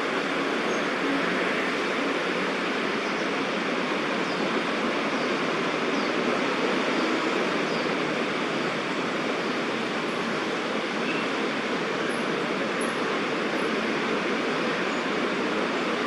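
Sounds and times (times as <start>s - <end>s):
distant city traffic roar: 0.0s - 16.0s.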